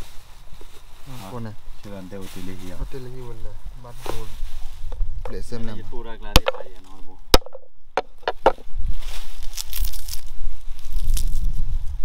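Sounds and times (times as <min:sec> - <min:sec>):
plant rustling: 0:00.0 - 0:07.1, 0:08.6 - 0:12.0.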